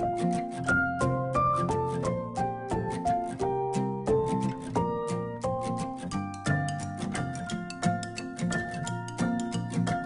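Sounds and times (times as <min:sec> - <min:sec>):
light instrumental music with beat: 0:00.0 - 0:10.0.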